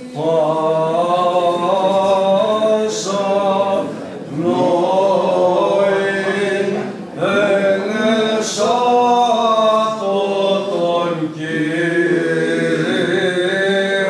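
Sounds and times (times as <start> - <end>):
unaccompanied voices chanting: 0.0 - 14.0.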